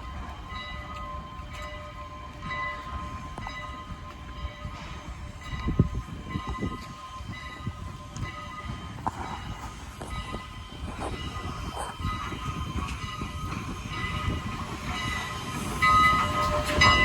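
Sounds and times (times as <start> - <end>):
train rumbling by: 0.0 - 17.0.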